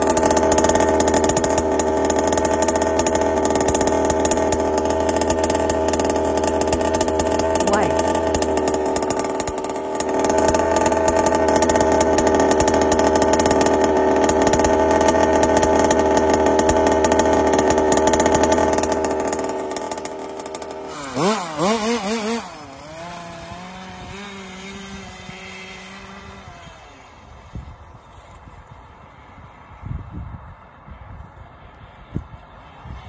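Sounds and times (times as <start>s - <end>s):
small engine raspy buzz: 0.0s - 33.0s.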